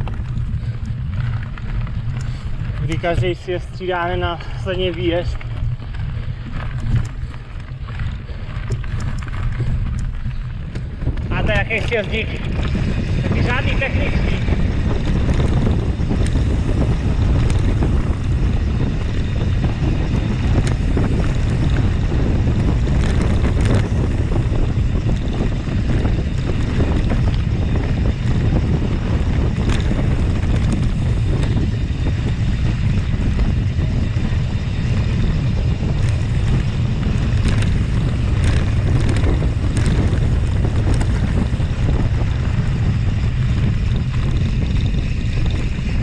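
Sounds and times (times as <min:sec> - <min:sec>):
bike clicks and rattles: 0:00.0 - 0:46.0
wind buffeting microphone: 0:00.0 - 0:46.0.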